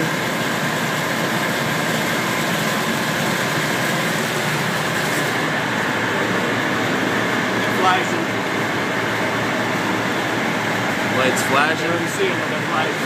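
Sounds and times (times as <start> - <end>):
fire engine pump running: 0.0 - 13.0.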